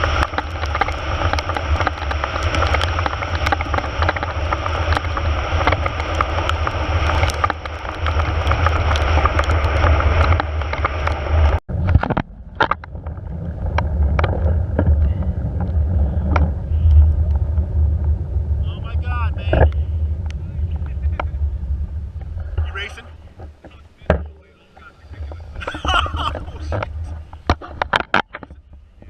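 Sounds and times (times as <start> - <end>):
low rumble: 0.0 - 29.0
wind rushing over microphone: 0.0 - 29.0.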